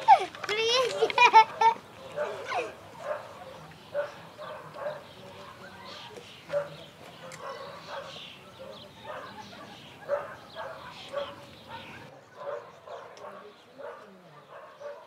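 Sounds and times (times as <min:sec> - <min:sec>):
dog barking and yipping: 0:00.1 - 0:15.0.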